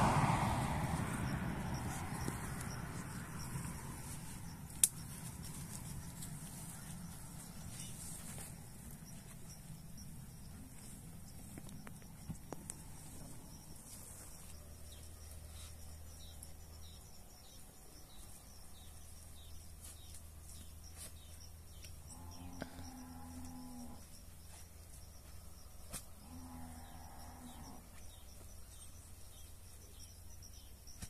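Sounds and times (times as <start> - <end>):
distant vehicle rumble: 0.0 - 26.2
faint insects chirping: 0.0 - 31.0.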